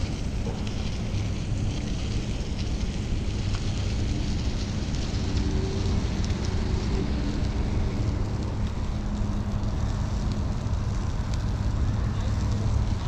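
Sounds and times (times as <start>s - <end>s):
road traffic: 0.0s - 13.0s
wind on microphone: 0.0s - 13.0s.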